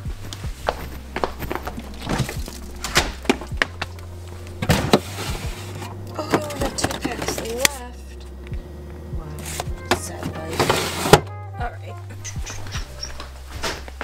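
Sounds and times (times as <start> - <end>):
refrigerator hum: 0.0 - 14.0.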